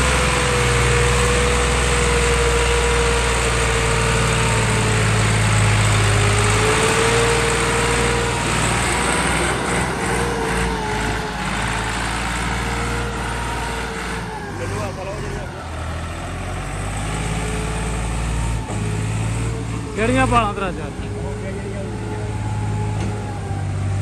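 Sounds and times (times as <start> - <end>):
tractor diesel engine straining: 0.0 - 24.0.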